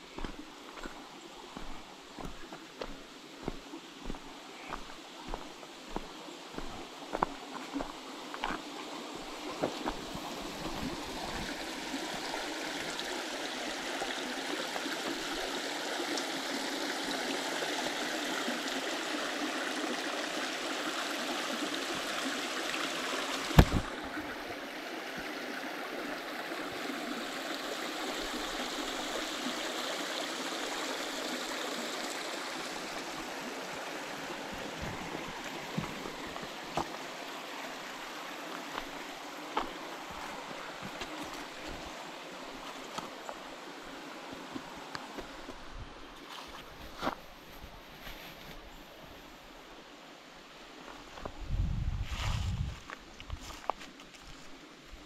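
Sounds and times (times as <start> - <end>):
creek water running: 0.0 - 51.6.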